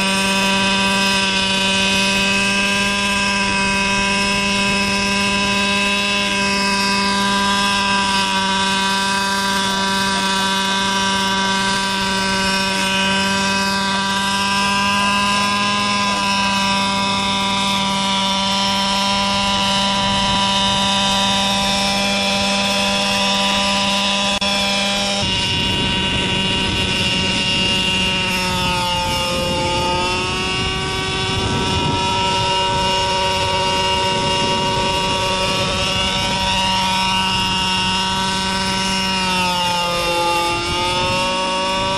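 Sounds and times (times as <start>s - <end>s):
model helicopter hovering: 0.0s - 41.9s.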